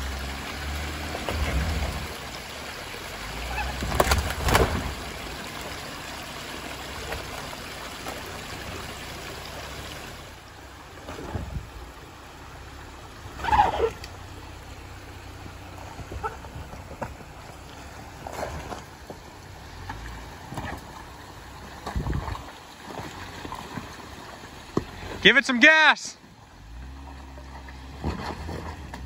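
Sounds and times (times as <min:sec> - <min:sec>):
water trickling: 0:00.0 - 0:25.2
truck engine hum: 0:00.0 - 0:29.0.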